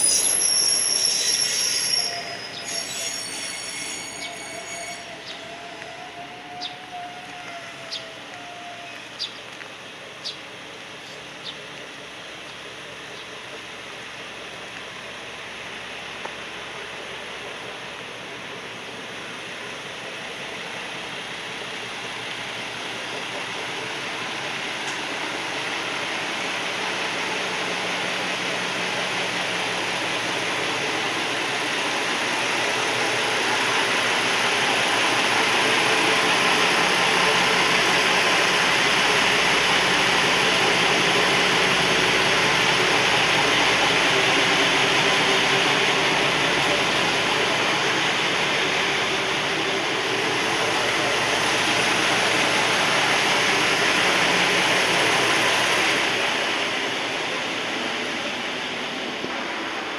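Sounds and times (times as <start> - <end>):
railcar engine and wheels rumbling: 0.0 - 59.9.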